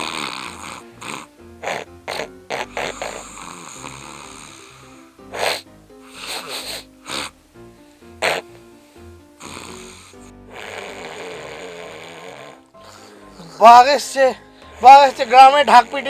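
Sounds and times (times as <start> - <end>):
person snoring loudly: 0.0 - 7.4, 8.1 - 16.0
background music: 0.0 - 16.0.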